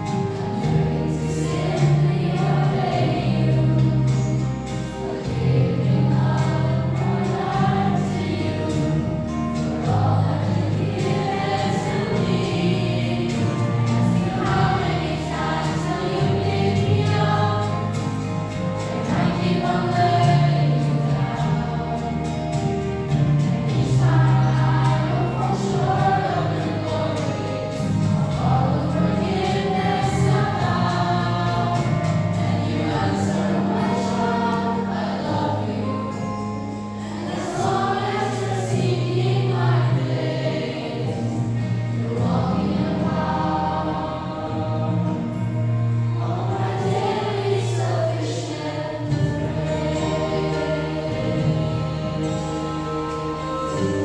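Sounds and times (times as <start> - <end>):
choir singing gospel: 0.0 - 54.0
sustained bass accompaniment: 0.0 - 54.0.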